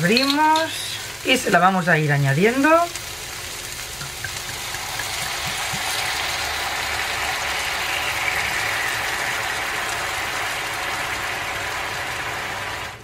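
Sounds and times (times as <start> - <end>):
liquid sizzling in frying pan: 0.0 - 13.0.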